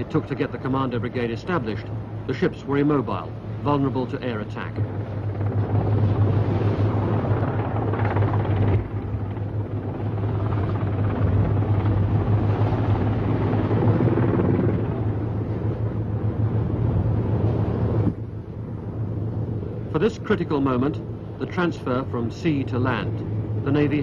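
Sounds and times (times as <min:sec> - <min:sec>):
boat engines droning: 0:00.0 - 0:24.0
wind: 0:00.0 - 0:24.0.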